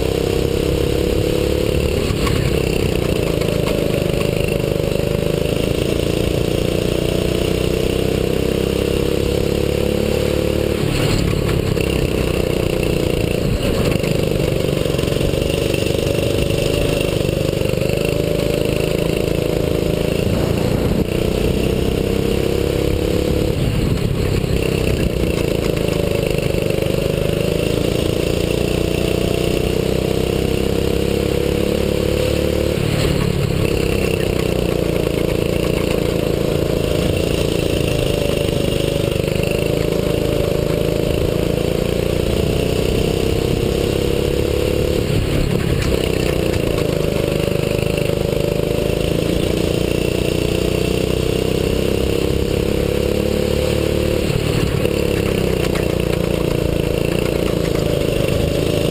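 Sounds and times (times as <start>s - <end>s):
kart engine at full throttle: 0.0s - 58.9s.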